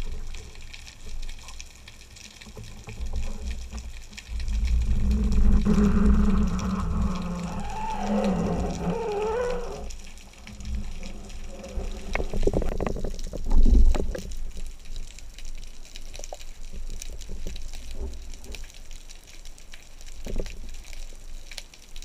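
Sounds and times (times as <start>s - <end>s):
water splashing and bubbling: 0.0s - 21.5s
crackling bubbles: 0.0s - 22.0s.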